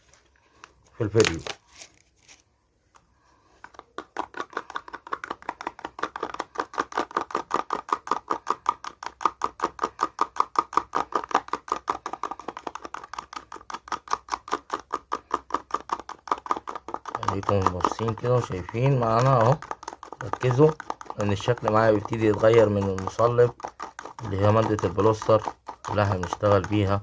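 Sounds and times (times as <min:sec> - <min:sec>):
screwdriver ticking against container: 0:04.4 - 0:27.0.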